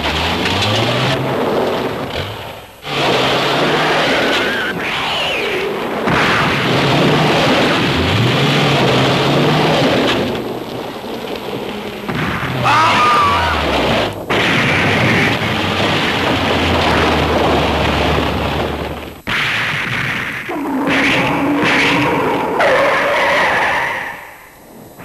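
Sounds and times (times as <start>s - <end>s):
dense rumbling and roaring: 0.0s - 25.0s.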